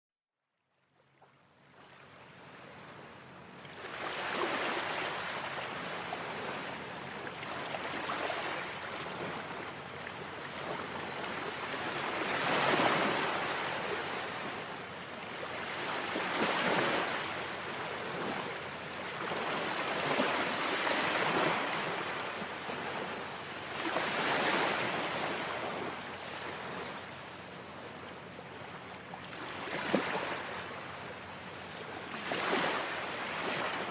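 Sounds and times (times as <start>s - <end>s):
sea waves breaking: 3.6s - 33.9s.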